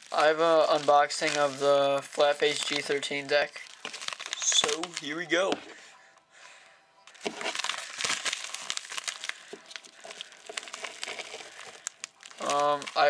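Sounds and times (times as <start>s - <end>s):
paper packaging crinkling: 0.0s - 5.8s, 7.0s - 13.0s.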